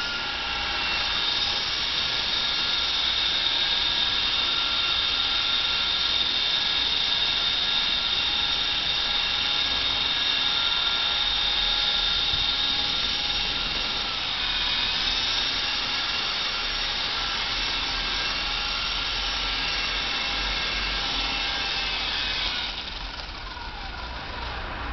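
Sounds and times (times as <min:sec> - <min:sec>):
rc helicopter motor whining: 0:00.0 - 0:24.9.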